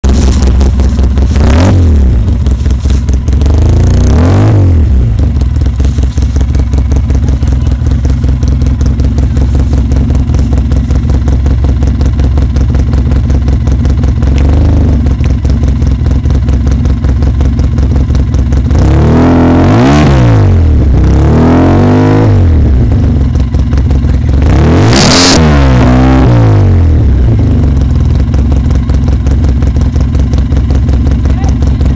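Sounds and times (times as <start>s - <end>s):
engine idling: 0.0s - 31.9s
engine throttle blips: 0.0s - 31.9s.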